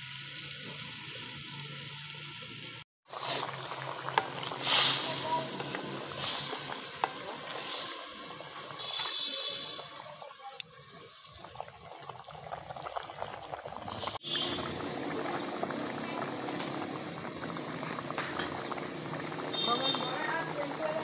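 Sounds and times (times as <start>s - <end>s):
curry bubbling and popping in a pot: 3.1s - 21.0s.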